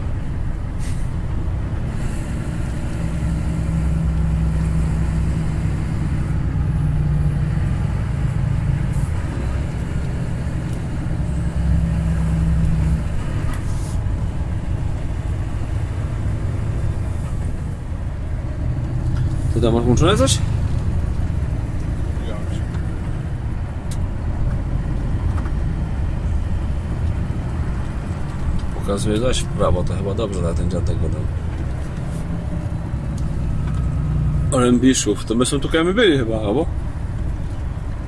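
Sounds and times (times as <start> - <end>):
truck engine running: 0.0 - 38.0
tyre and road noise: 0.0 - 38.0.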